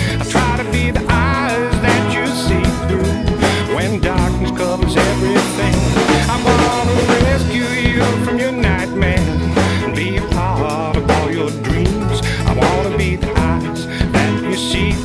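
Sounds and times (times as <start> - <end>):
wavering lead line: 0.0 - 13.8
drum kit beat: 0.0 - 15.0
rock song: 0.0 - 15.0.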